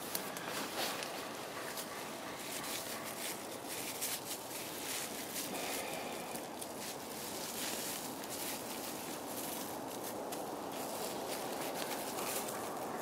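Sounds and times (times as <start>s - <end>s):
plastic bag rustling and crinkling: 0.0s - 13.0s
steady background hiss: 0.0s - 13.0s.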